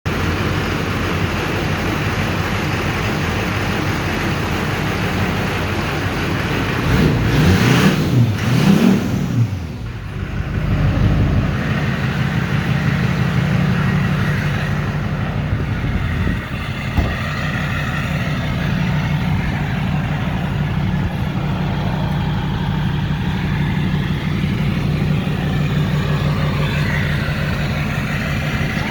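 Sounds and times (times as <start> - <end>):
diesel engine revving and idling: 0.0 - 28.9.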